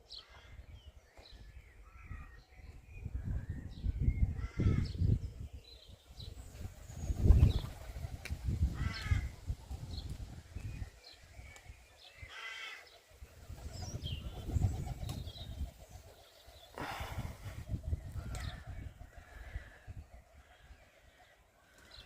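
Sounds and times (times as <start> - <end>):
wind rumbling on microphone: 0.5 - 11.8, 13.2 - 20.5.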